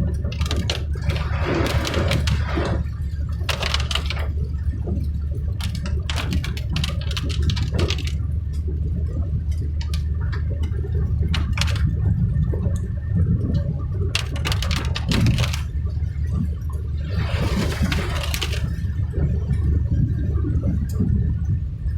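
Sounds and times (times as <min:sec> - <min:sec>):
vehicle rumbling on road: 0:00.0 - 0:21.9.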